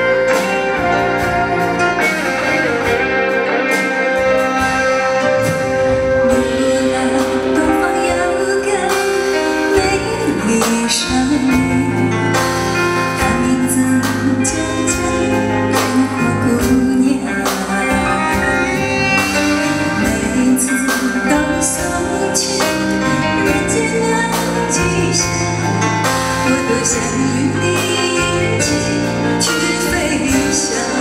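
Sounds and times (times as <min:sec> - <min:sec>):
live band with keyboard: 0:00.0 - 0:31.0
woman singing into a microphone: 0:06.1 - 0:31.0.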